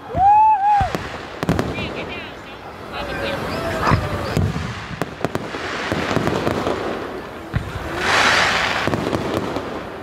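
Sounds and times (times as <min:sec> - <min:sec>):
fireworks cracking and banging: 0:00.0 - 0:10.0
fireworks rushing hiss: 0:00.2 - 0:10.0.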